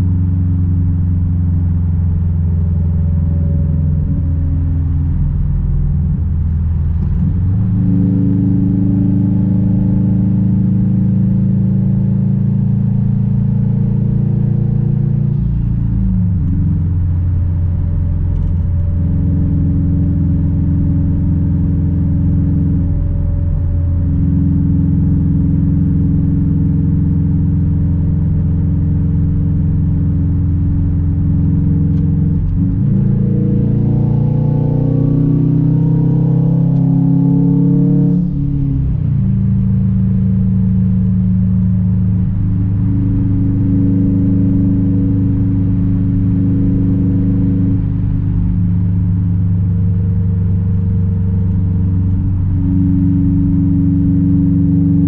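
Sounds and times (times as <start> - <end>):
car exhaust droning: 0.0 - 55.0.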